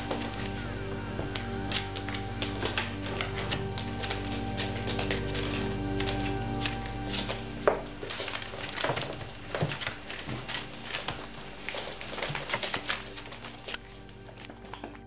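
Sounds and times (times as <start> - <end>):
newspaper rustling: 0.0 - 15.0.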